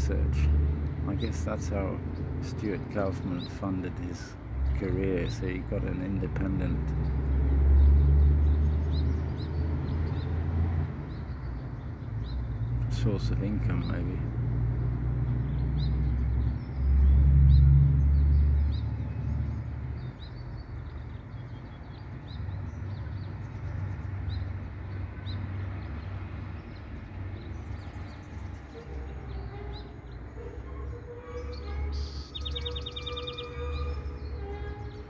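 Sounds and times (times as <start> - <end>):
small birds chirping: 0.0 - 14.4, 15.2 - 35.0.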